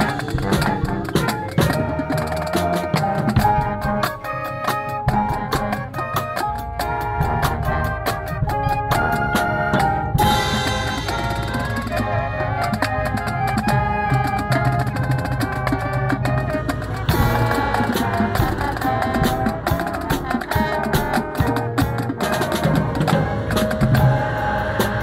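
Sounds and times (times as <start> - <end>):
brass chords: 0.0 - 25.0
snare and bass drums: 0.0 - 25.0.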